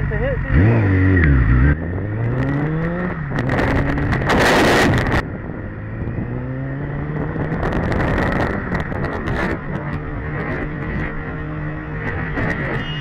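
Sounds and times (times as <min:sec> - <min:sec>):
motorcycle engine accelerating: 0:00.0 - 0:13.0
wind rushing over microphone: 0:00.6 - 0:13.0.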